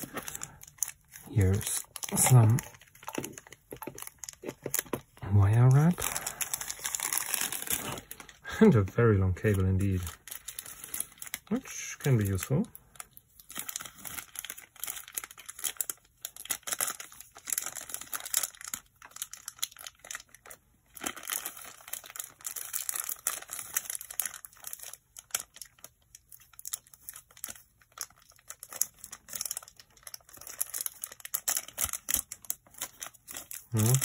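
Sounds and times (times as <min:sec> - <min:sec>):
packaging crinkling and rustling: 0:00.0 - 0:34.0.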